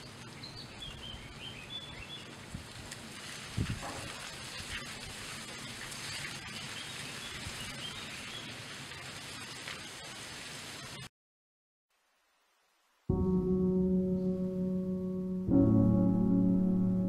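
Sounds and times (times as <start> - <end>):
steady outdoor hiss: 0.0 - 11.1, 11.9 - 17.0.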